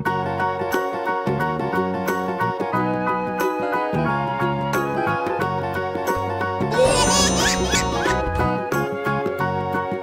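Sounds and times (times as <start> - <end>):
upbeat children's music: 0.1 - 10.0.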